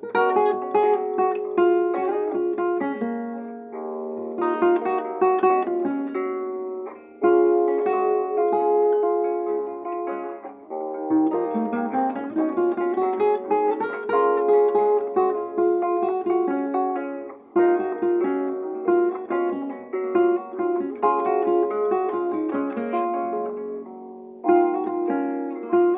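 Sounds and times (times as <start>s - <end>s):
acoustic guitar playing: 0.0s - 25.9s.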